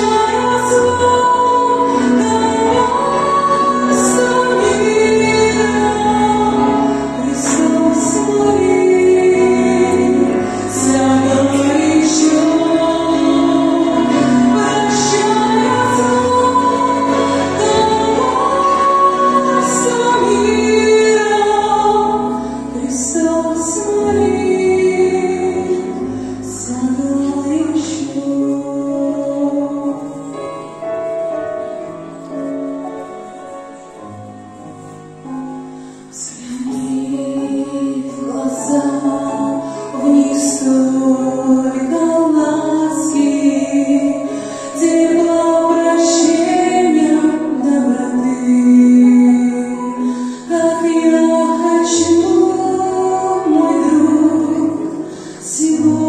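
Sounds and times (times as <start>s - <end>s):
choir singing a hymn: 0.0s - 30.0s, 36.3s - 49.9s, 50.5s - 56.0s.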